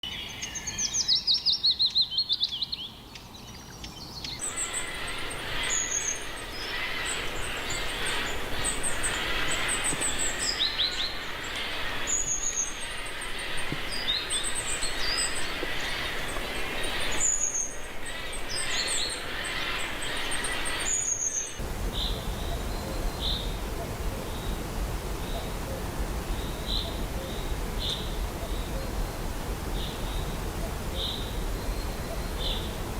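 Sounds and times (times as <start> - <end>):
birds chattering: 1.7 - 32.9
rapid falling bird chirps: 4.2 - 32.9.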